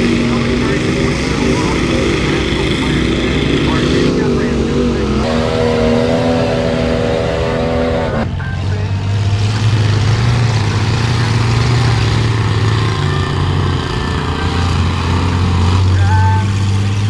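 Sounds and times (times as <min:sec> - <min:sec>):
truck engine under load: 0:00.0 - 0:17.0.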